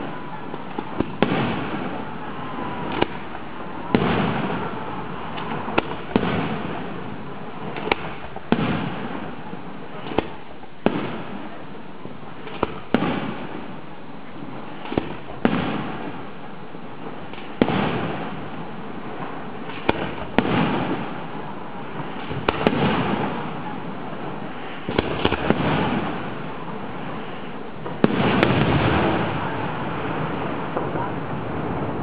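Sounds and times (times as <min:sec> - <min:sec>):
fireworks bursting: 0:00.0 - 0:32.0
lingering rumble: 0:00.0 - 0:32.0.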